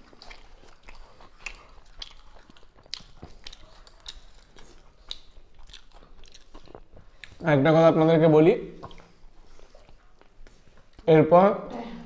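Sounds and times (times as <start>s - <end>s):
person chewing and lip smacking: 0.0s - 7.5s, 8.7s - 11.1s.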